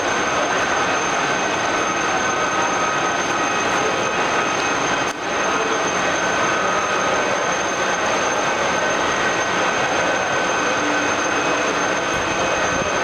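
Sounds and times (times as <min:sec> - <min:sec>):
drilling machine whining: 0:00.0 - 0:13.0.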